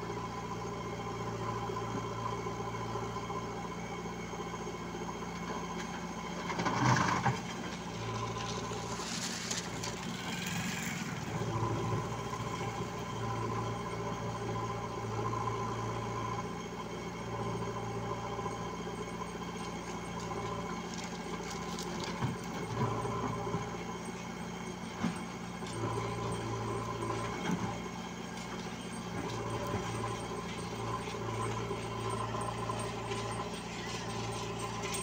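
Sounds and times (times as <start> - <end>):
diesel engines running: 0.0 - 35.0.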